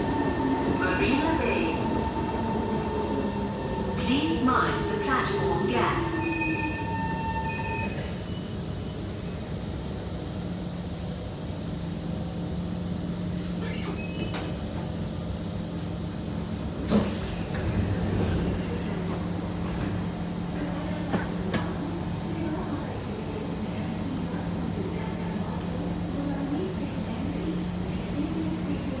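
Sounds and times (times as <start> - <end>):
train low hum: 0.0 - 29.0.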